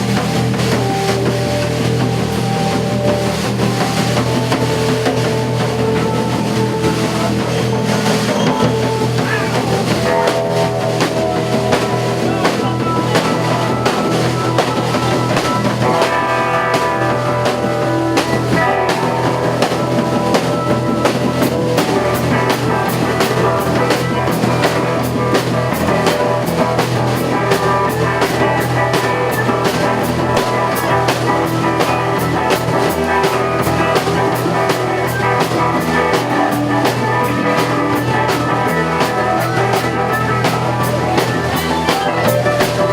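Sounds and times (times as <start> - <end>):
drum kit hits: 0.0 - 42.9
live band playing: 0.0 - 42.9.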